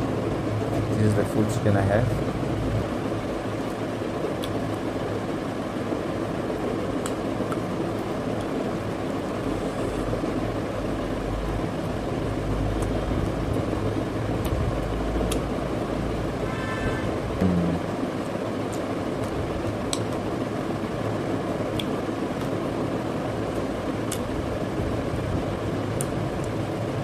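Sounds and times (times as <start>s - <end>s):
low whirring hum: 0.0s - 27.0s.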